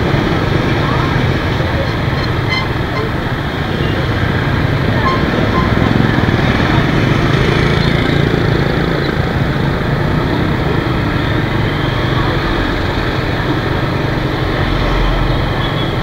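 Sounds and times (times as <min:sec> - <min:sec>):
motorbike engines: 0:00.0 - 0:16.0
road and wind noise: 0:00.0 - 0:16.0.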